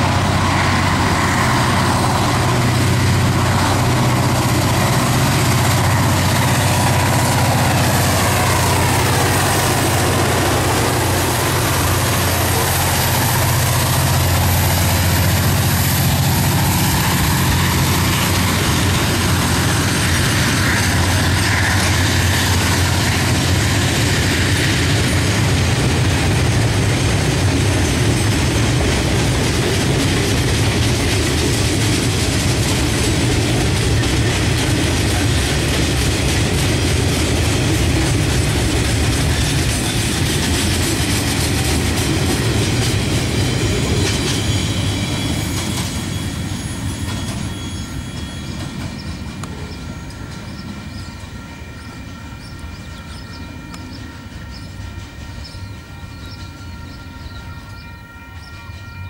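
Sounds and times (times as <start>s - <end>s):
steel wheels clattering on rails: 0.0s - 58.5s
diesel locomotives at full power: 0.0s - 59.0s.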